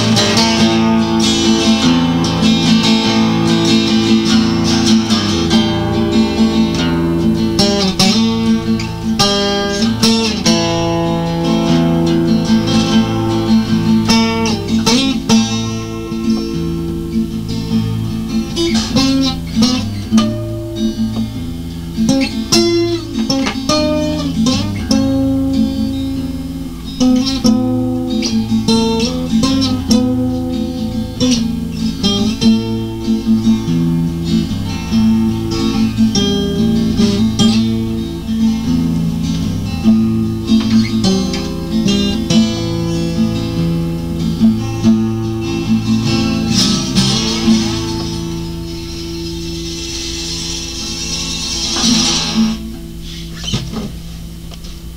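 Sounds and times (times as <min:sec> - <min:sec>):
acoustic guitar strummed and plucked: 0:00.0 - 0:54.9.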